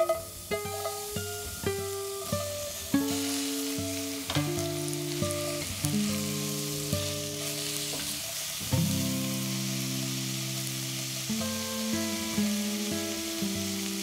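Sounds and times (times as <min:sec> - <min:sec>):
onions sizzling in oil: 0:00.0 - 0:14.0
soft plucked music: 0:00.0 - 0:14.0.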